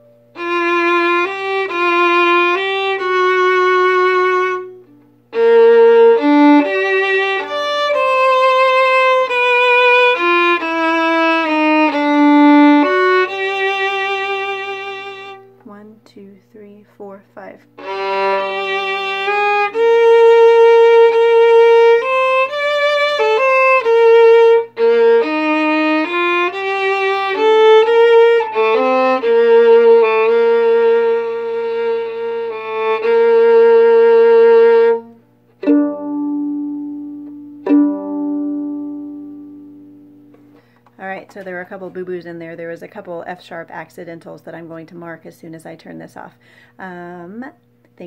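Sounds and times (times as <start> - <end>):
violin bowed melody: 0.0 - 15.7, 17.7 - 41.2
plucked violin notes: 0.0 - 15.8, 17.7 - 41.2.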